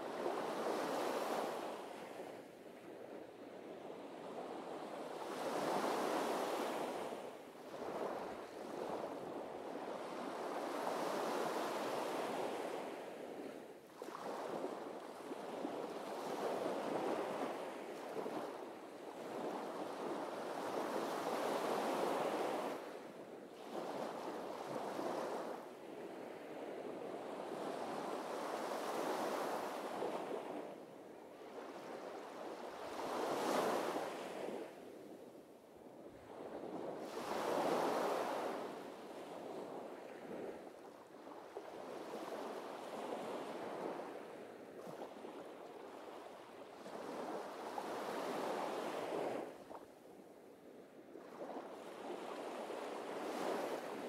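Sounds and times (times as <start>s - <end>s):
small waves washing up beach: 0.0s - 50.0s, 50.6s - 54.0s.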